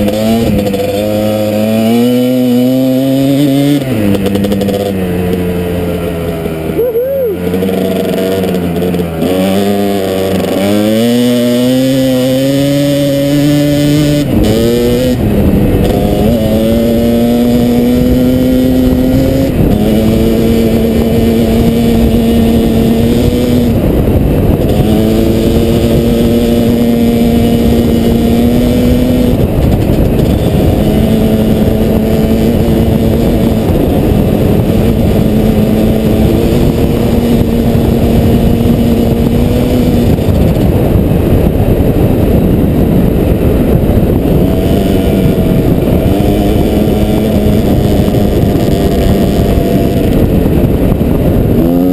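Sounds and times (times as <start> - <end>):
constant rushing noise: 0.0 - 51.9
dirt bike engine running under throttle: 0.0 - 51.9.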